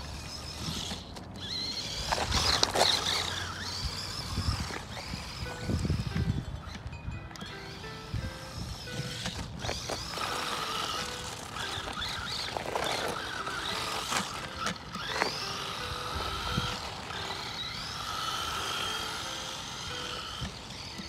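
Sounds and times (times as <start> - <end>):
toy truck electric motor whining: 0.0 - 21.0
tyres on gravel: 0.0 - 21.0.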